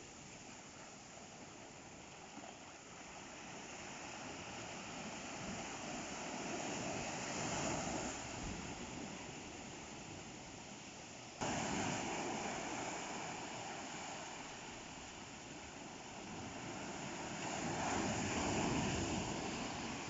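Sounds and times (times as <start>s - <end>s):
sea surf washing: 0.0s - 20.0s.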